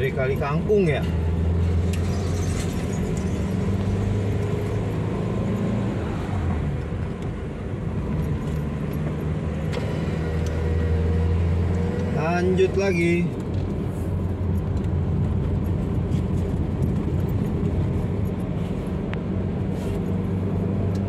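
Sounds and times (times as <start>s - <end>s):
car engine drone: 0.0s - 21.0s.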